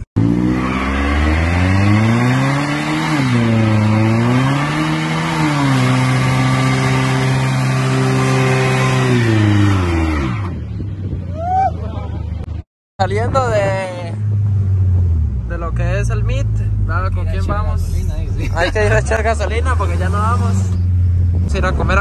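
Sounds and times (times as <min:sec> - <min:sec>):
car engine revving: 0:00.0 - 0:11.1, 0:13.9 - 0:22.0.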